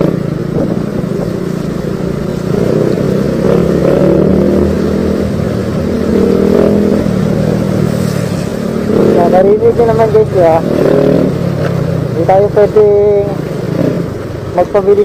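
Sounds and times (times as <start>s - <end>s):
motorcycle engine revving: 0.0s - 15.0s
wind rumble: 0.0s - 15.0s.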